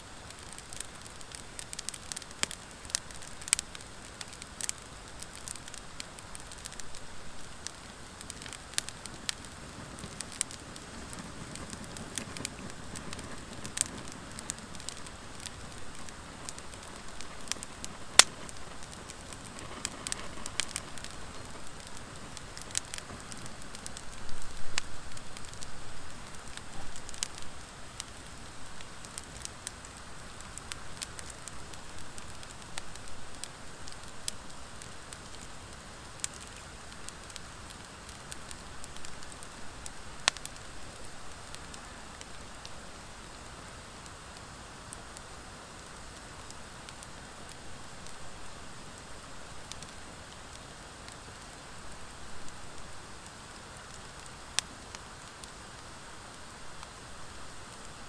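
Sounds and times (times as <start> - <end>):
wood fire crackling and hissing: 0.0 - 58.0.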